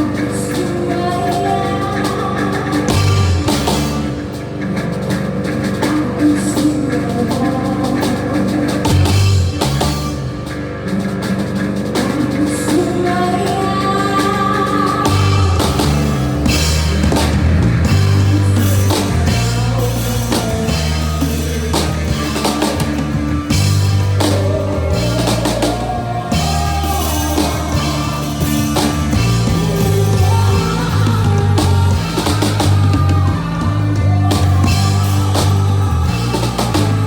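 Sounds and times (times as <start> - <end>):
bass notes: 0.0 - 37.0
live rock band playing: 0.0 - 37.0.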